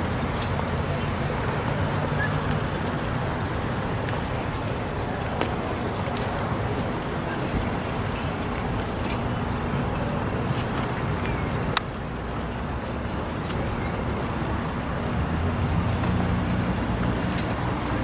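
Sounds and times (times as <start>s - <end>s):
vehicle rumble with hum: 0.0s - 18.0s.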